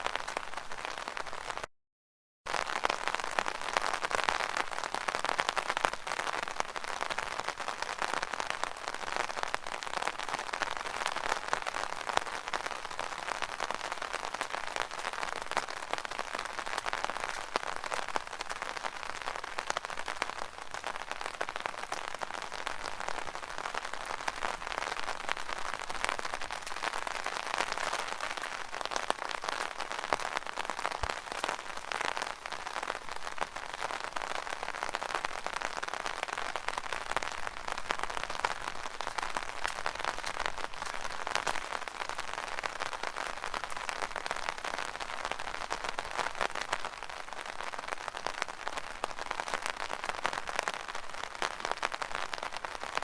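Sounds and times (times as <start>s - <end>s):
rain on an umbrella: 0.0s - 1.7s, 2.5s - 53.0s.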